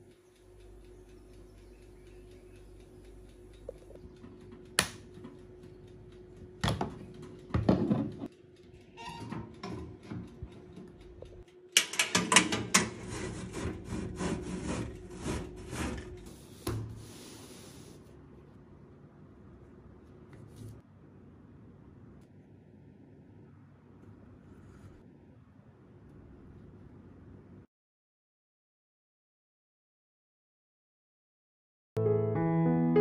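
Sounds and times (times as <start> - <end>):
toaster oven hum: 0.0 - 27.4.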